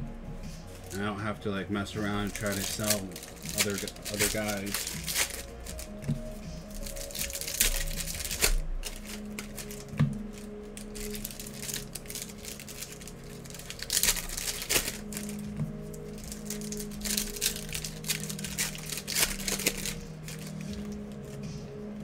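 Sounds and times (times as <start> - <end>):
cards clicking and rustling: 2.0 - 21.5.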